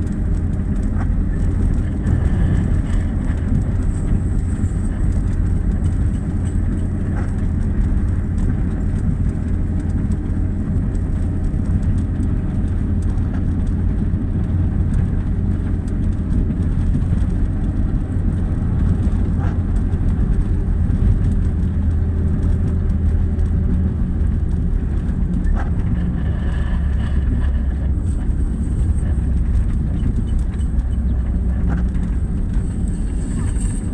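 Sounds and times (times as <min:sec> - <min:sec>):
engine rumbling steadily: 0:00.0 - 0:33.9.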